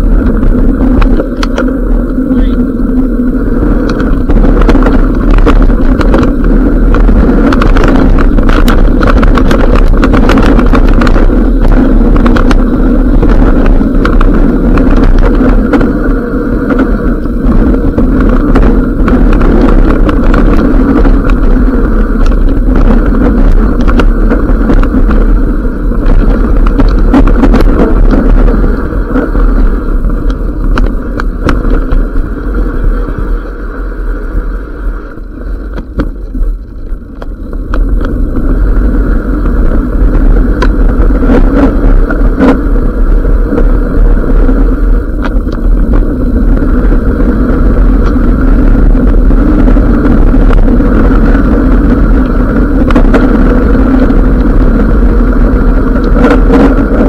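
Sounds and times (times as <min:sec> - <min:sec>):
bike rattles and knocks: 0:00.0 - 0:34.2, 0:35.1 - 0:57.0
bike tyres on gravel: 0:00.0 - 0:57.0
wind rumble on microphone: 0:00.0 - 0:57.0.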